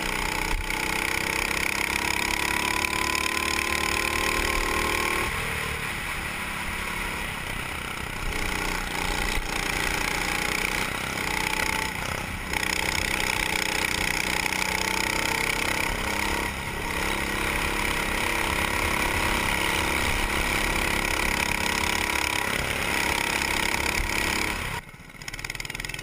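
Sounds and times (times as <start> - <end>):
go-kart engine racing: 0.0 - 26.0.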